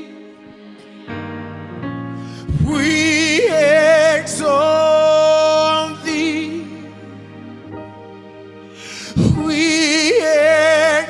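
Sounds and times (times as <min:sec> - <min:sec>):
worship band sustained chords: 0:00.0 - 0:11.0.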